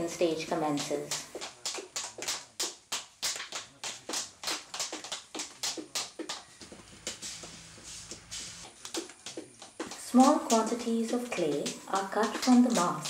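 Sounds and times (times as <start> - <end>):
wet clay slapped by hand: 0.7 - 7.5, 8.8 - 13.0.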